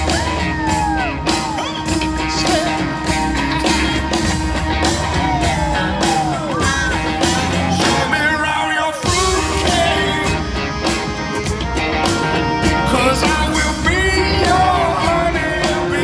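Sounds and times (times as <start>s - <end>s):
bass: 0.0s - 8.4s, 9.0s - 16.0s
drum beat: 0.0s - 16.0s
guitar: 0.0s - 16.0s
live rock band: 0.0s - 16.0s
person singing: 0.0s - 16.0s.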